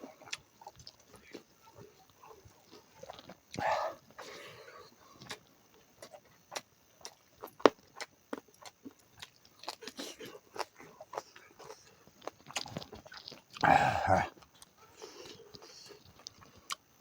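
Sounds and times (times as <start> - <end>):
chewing with mouth clicks: 0.0 - 17.0.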